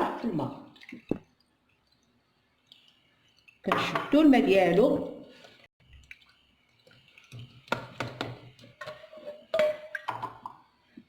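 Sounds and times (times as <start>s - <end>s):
water splashing from a colander: 0.0s - 10.7s
water drips: 0.0s - 11.0s.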